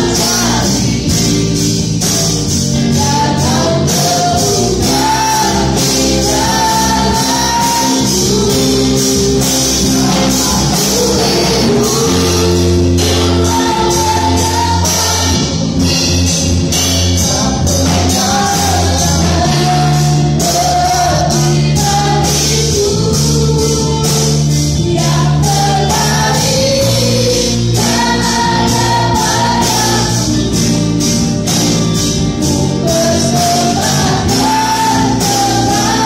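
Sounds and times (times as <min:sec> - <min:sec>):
amplified band accompaniment: 0:00.0 - 0:36.0
group singing gospel song: 0:00.0 - 0:36.0.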